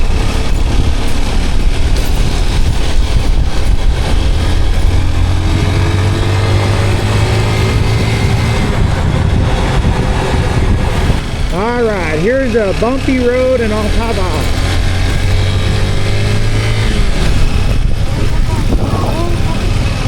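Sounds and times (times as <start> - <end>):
motorcycle engine: 0.0 - 20.0
road and wind noise: 0.0 - 20.0.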